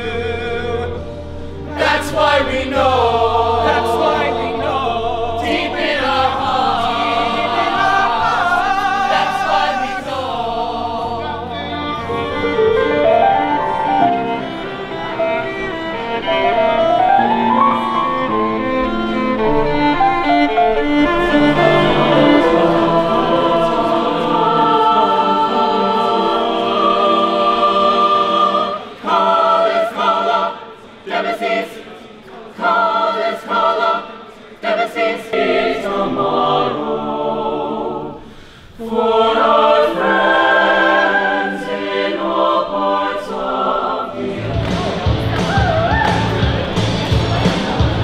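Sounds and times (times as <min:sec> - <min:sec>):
choir singing: 0:00.0 - 0:48.0.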